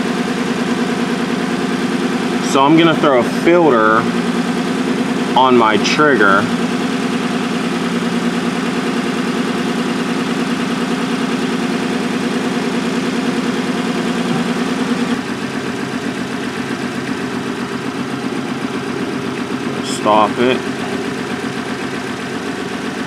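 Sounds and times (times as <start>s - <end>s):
car engine idling with misfire: 0.0s - 23.0s.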